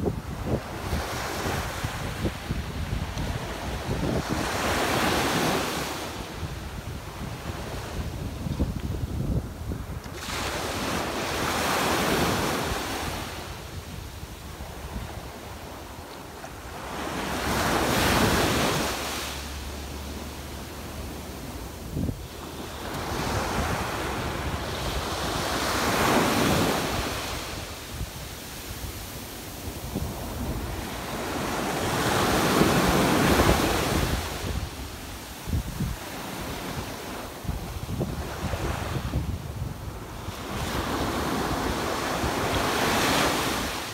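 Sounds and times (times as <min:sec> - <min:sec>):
wind buffeting microphone: 0:00.0 - 0:16.0, 0:16.9 - 0:43.8
small waves washing up a beach: 0:00.0 - 0:43.9.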